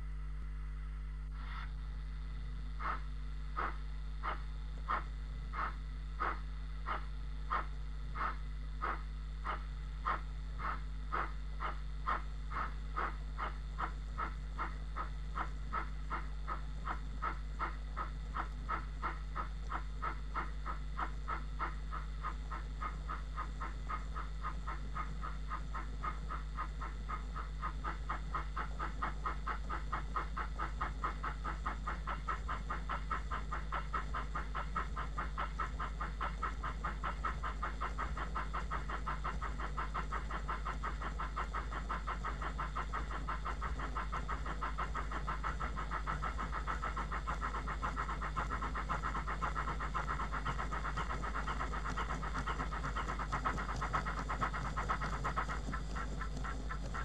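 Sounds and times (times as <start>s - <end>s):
steam locomotive chuffing from speaker: 2.7s - 57.0s.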